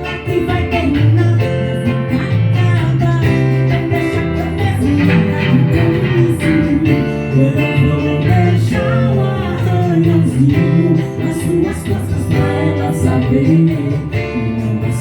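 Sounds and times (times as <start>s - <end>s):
pop band instrumental with guitar: 0.0s - 15.0s.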